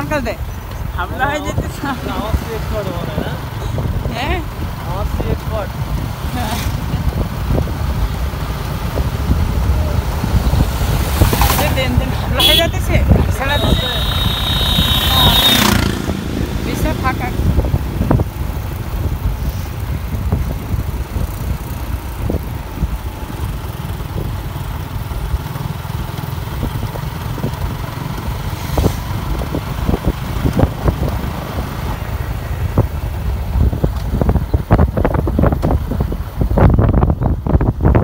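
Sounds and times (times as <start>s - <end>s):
wind buffeting microphone: 0.0s - 25.5s, 26.4s - 38.0s
motorcycle engine and road rumble: 0.0s - 38.0s.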